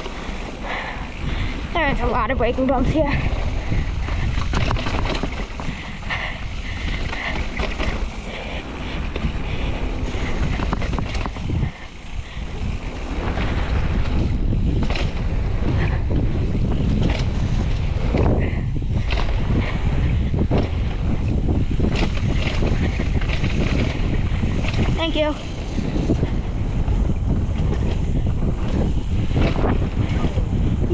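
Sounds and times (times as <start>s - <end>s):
bike rattling and clacking: 0.0s - 30.9s
tyres on dirt: 0.0s - 30.9s
wind rushing over microphone: 0.0s - 30.9s.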